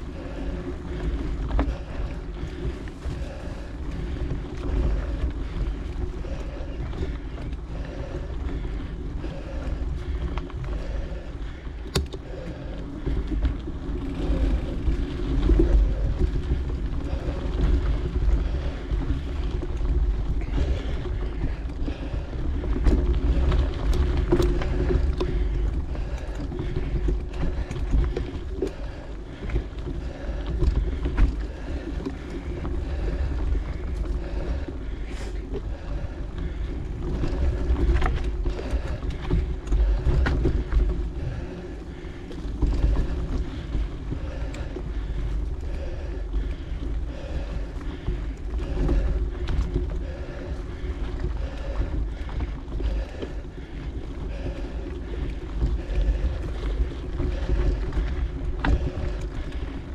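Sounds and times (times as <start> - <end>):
bike rattles and clicks: 0.0 - 59.9.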